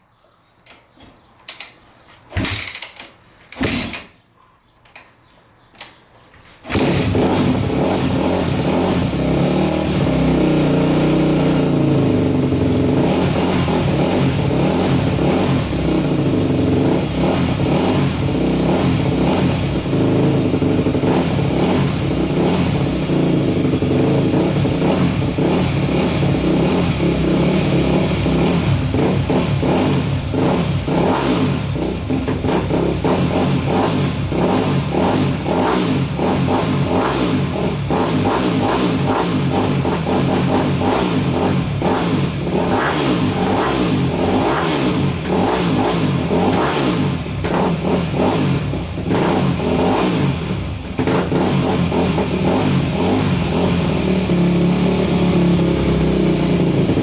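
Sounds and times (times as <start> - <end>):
dirt bike engine revving: 6.6 - 57.0.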